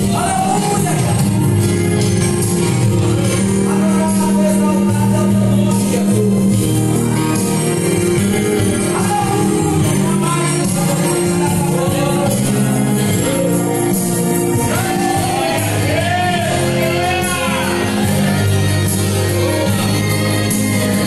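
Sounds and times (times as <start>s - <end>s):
person singing into a microphone: 0.0s - 1.5s, 3.3s - 21.0s.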